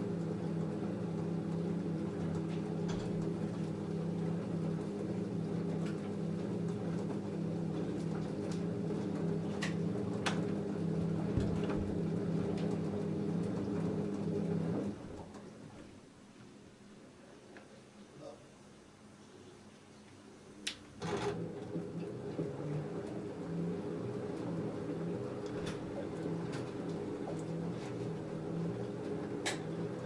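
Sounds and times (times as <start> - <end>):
washing machine hum: 0.0 - 18.0, 19.9 - 30.0.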